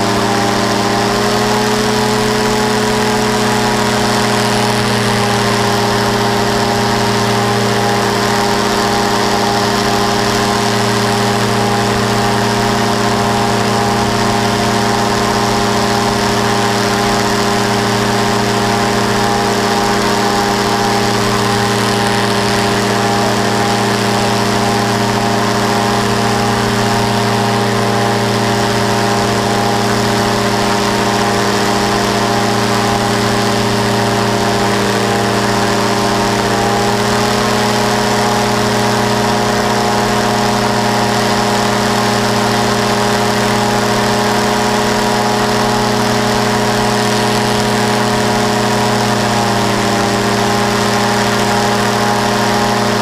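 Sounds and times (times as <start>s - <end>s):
engine and propeller droning: 0.0s - 53.0s.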